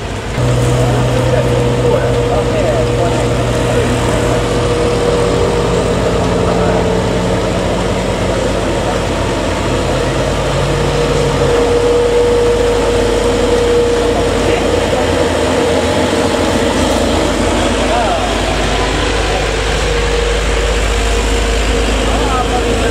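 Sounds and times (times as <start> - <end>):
diesel truck engine under load: 0.0 - 22.9.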